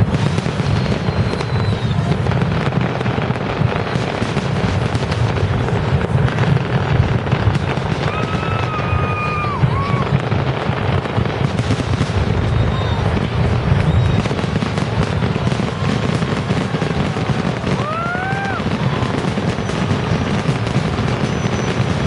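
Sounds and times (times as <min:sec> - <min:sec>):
firework whistle: 0:00.0 - 0:22.0
fireworks booming and crackling: 0:00.0 - 0:22.0.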